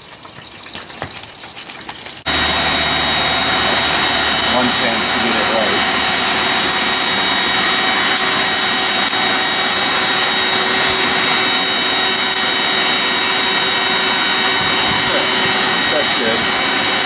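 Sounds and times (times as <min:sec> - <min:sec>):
faint high whines: 0:02.3 - 0:17.0
forge roaring: 0:02.3 - 0:17.0.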